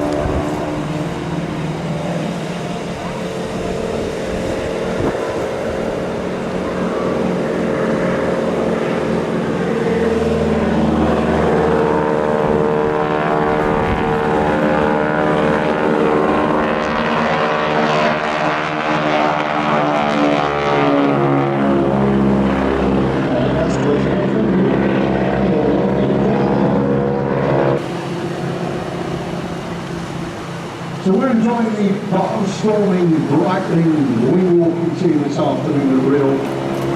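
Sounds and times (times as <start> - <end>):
biplane engine droning: 0.0 - 36.9.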